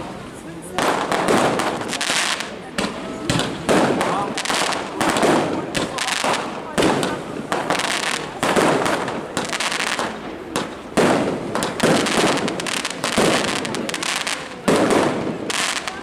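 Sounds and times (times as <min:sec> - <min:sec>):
fireworks bangs with hissing decay: 0:00.0 - 0:16.0
small firework bursts: 0:00.0 - 0:16.0.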